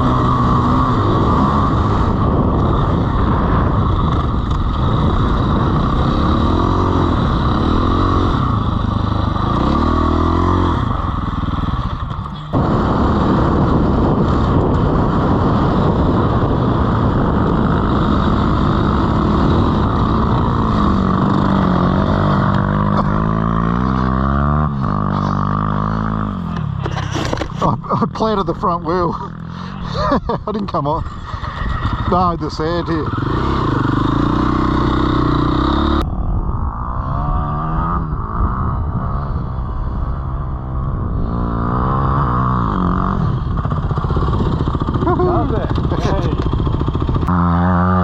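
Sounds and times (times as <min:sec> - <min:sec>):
wind noise on microphone: 0:00.0 - 0:27.8, 0:29.3 - 0:48.0
dirt bike engine revving: 0:00.0 - 0:36.0, 0:36.7 - 0:48.0.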